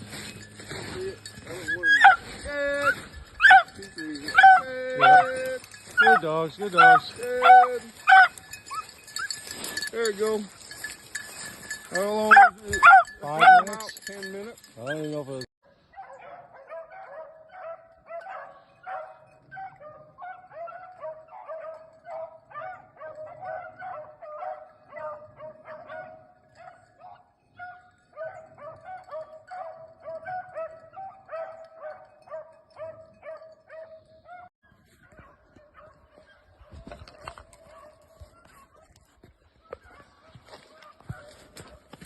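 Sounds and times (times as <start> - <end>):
pack of dogs baying: 0.0 - 9.9, 10.6 - 39.0.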